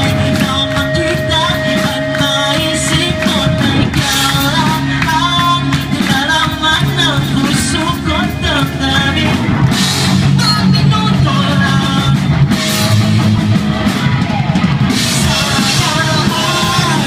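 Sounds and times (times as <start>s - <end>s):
person singing: 0.0s - 12.6s, 13.9s - 17.0s
bass guitar: 0.0s - 17.0s
drums: 0.0s - 17.0s
electric guitars: 0.0s - 17.0s.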